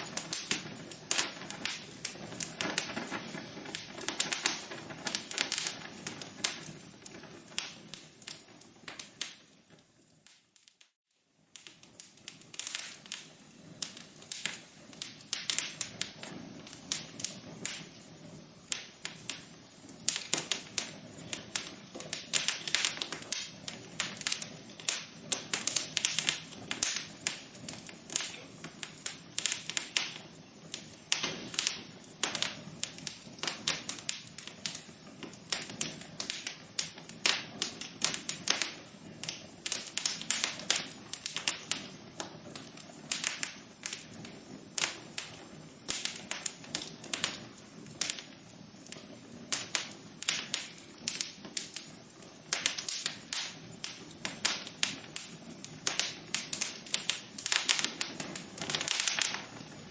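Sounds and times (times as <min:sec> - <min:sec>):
hiss of burning: 0:00.0 - 0:59.9
wood fire crackling: 0:00.0 - 0:59.9.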